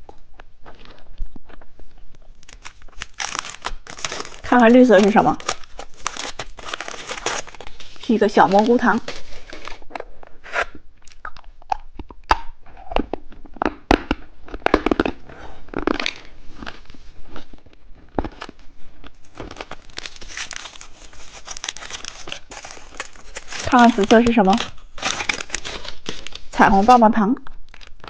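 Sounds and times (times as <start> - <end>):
plastic candy wrapper crinkling: 0.4 - 28.0.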